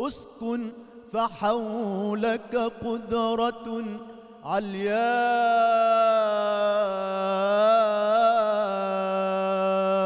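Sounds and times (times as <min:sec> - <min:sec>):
man chanting a devotional hymn: 0:00.0 - 0:10.0.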